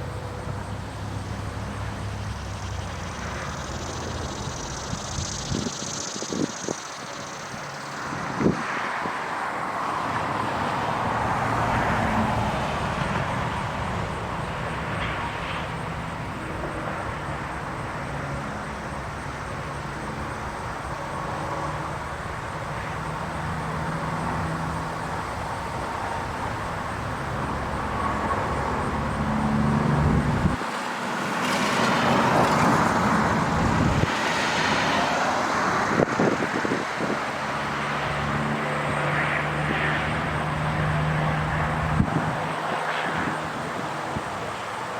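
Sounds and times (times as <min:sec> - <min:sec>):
cars passing on road: 0:00.0 - 0:44.9.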